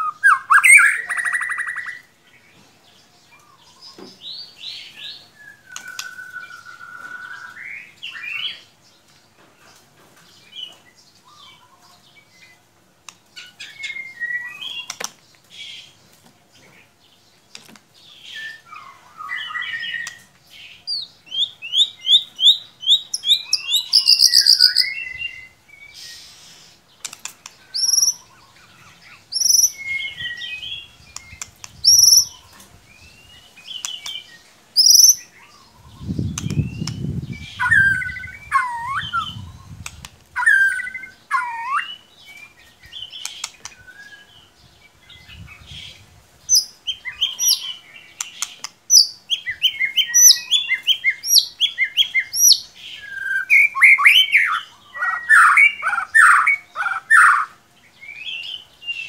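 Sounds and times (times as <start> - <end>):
bird song with whistled notes: 0.0 - 12.6, 13.3 - 16.0, 18.0 - 59.0.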